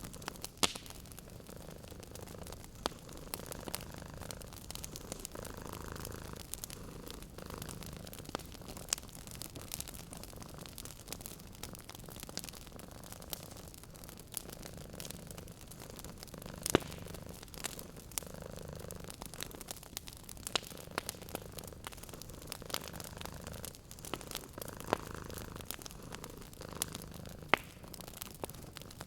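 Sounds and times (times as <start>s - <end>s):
cat purring: 0.0s - 29.0s
wood fire crackling: 0.0s - 29.0s.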